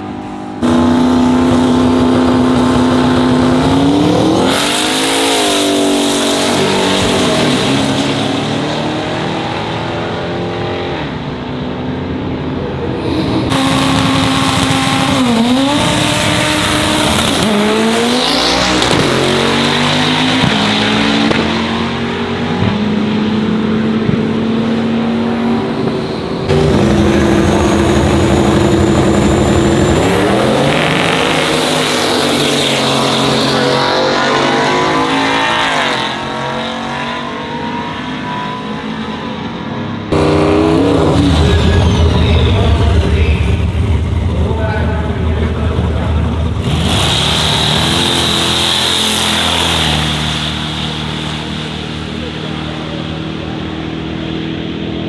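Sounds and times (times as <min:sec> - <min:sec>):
car engines idling and revving: 0:00.0 - 0:55.0.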